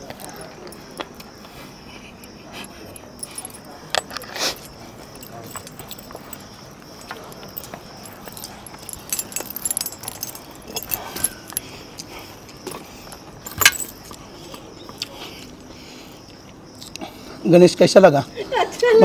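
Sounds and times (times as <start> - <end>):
light metallic clinks and jangling: 0.0 - 17.1.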